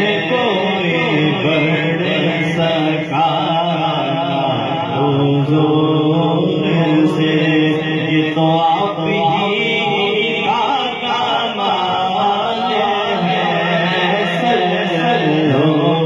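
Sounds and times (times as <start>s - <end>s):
steady held drone: 0.0s - 16.0s.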